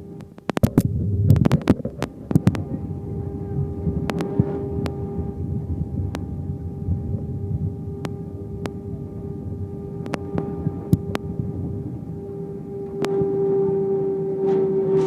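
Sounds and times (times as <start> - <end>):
aircraft cabin engine rumble: 0.0 - 15.0
steady hum: 0.0 - 15.0.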